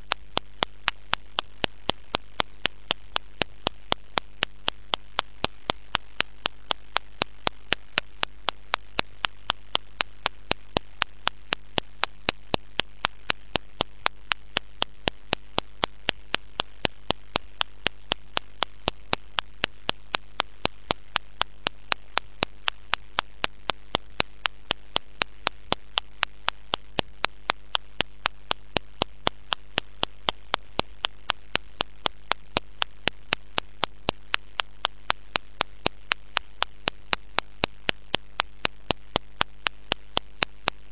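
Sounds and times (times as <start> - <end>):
electrical mains hum: 0.0 - 40.9
sharp regular clicks: 0.0 - 40.9.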